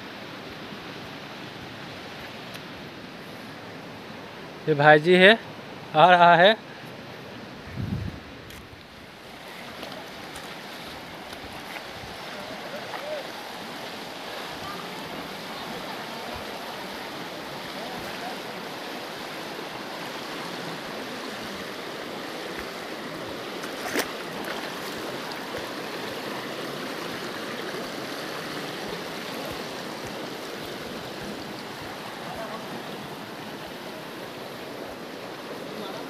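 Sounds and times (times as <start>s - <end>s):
stream rushing over rocks: 0.0s - 36.0s.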